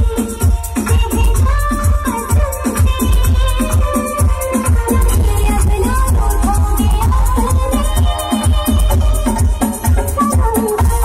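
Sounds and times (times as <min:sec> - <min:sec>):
loud music with drum beat: 0:00.0 - 0:11.0.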